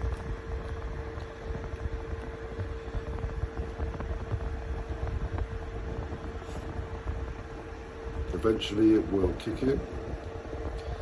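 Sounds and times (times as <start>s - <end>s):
air conditioner fan humming: 0.0s - 11.0s.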